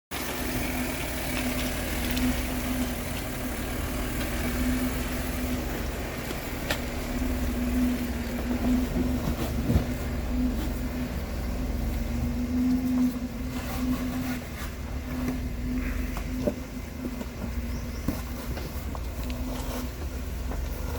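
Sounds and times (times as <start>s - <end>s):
car engine idling: 0.1s - 20.9s.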